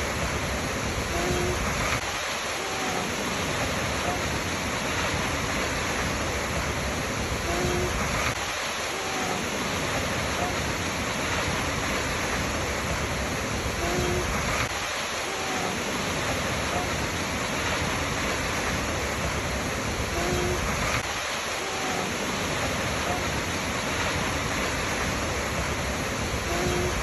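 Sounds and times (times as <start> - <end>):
waterfall roaring: 0.0 - 27.0.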